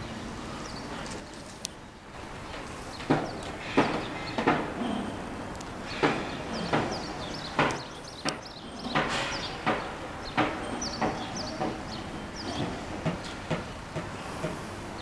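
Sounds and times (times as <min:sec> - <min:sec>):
sharp knocks: 0:02.5 - 0:14.6.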